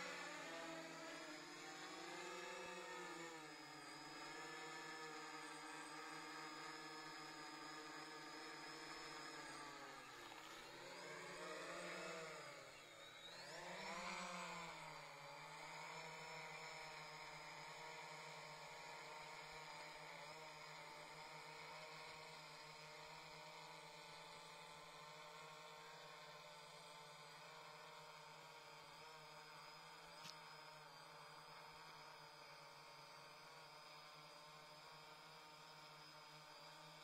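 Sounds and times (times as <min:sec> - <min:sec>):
model plane propellers buzzing: 0:00.0 - 0:37.0.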